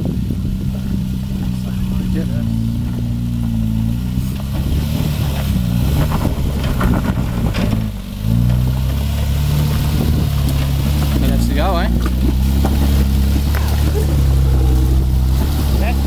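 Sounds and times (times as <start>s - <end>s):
engine working under load: 0.0s - 16.0s
stones crunching under tyres: 0.0s - 16.0s.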